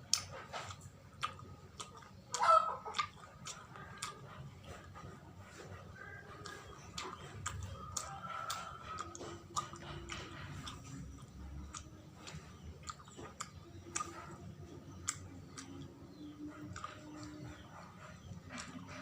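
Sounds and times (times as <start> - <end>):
sharp mouth clicks: 0.0 - 5.0, 6.3 - 19.0
close-up chewing: 0.0 - 19.0.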